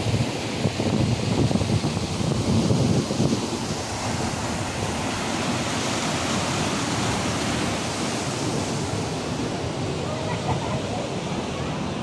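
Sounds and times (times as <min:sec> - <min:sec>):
waterfall and river rushing: 0:00.0 - 0:12.0.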